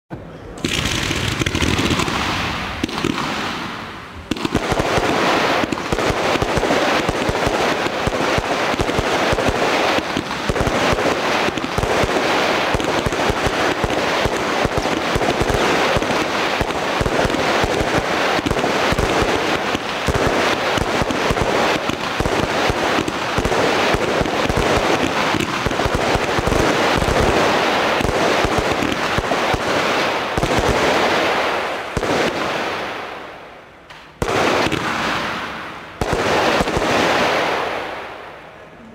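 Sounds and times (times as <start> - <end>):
firework battery firing: 0.6 - 38.3
firework crackle bursts: 0.6 - 38.3.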